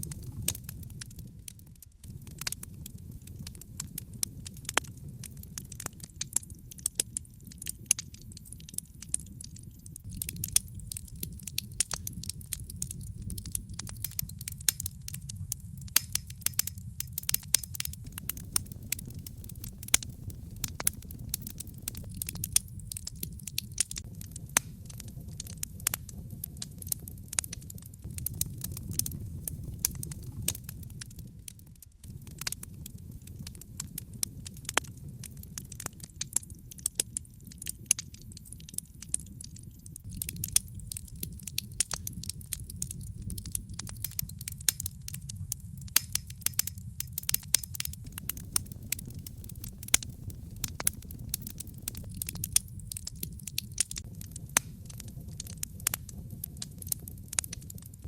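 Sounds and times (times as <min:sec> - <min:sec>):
logs crackling in a fireplace: 0:00.0 - 0:58.0.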